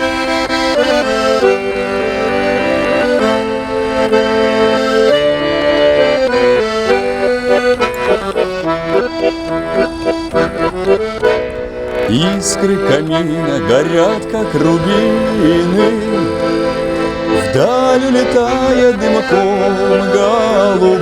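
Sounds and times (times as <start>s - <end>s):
button accordion playing: 0.0s - 21.0s.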